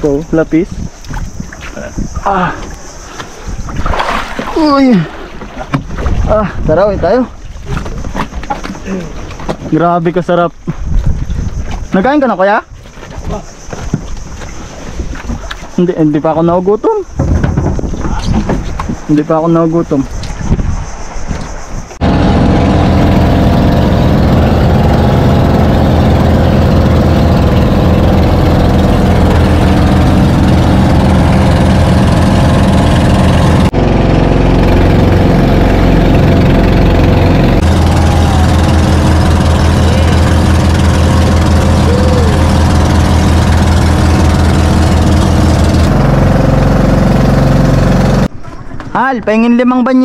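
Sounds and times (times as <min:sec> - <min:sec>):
boat engine running: 0:00.0 - 0:48.8.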